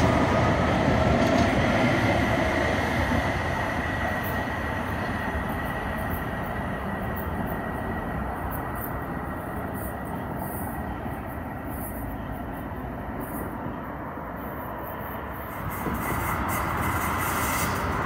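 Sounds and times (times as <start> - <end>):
train rolling on track: 0.0 - 18.0.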